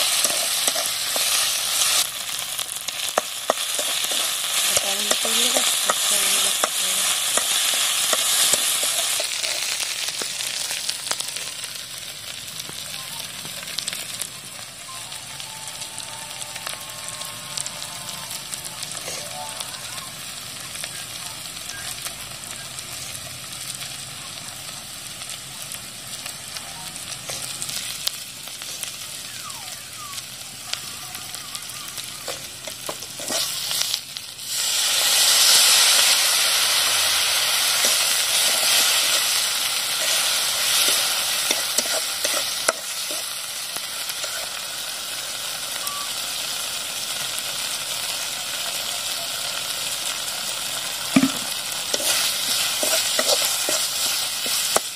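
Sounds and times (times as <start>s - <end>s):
masala sizzling in hot oil: 0.0s - 54.9s
water hissing in hot pan: 0.0s - 54.9s.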